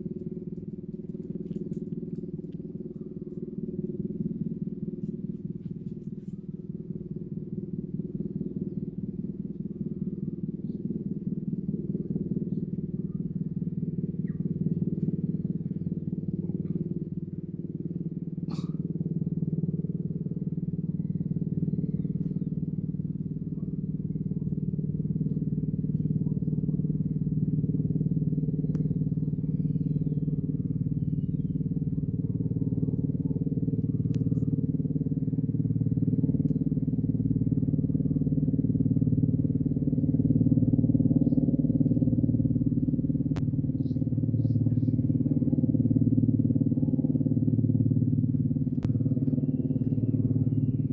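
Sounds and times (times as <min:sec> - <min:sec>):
helicopter rotor and engine: 0:00.0 - 0:50.9.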